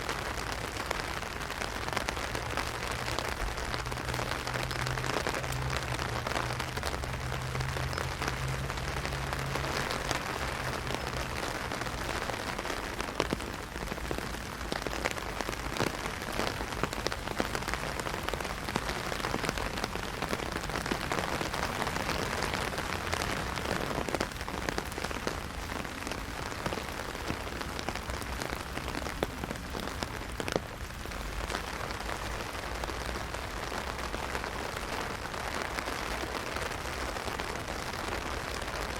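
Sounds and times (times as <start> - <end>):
heavy rain drumming on an umbrella: 0.0 - 38.9.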